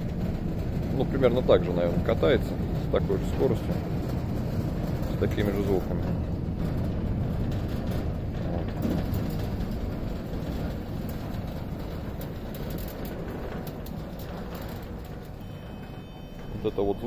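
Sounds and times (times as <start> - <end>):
gate motor rumbling: 0.0 - 17.0.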